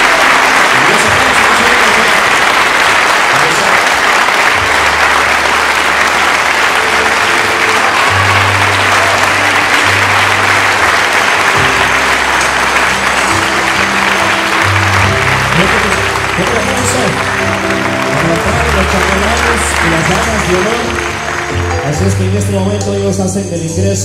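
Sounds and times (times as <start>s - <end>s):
crowd applauding: 0.0s - 23.6s.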